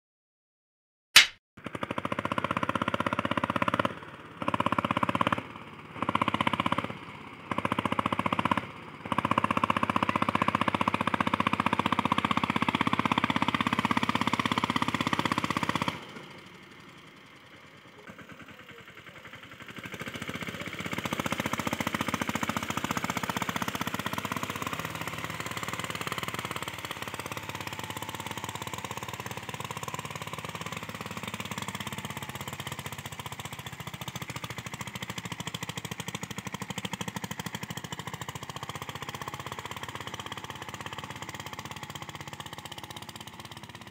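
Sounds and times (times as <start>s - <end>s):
tractor diesel engine chugging: 1.6s - 43.9s.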